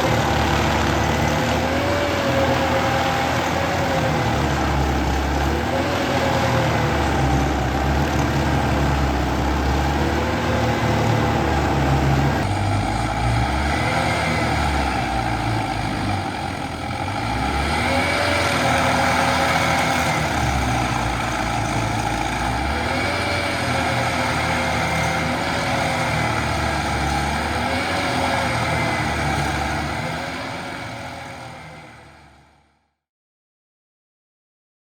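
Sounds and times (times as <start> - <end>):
heavy engine revving: 0.0 - 32.7.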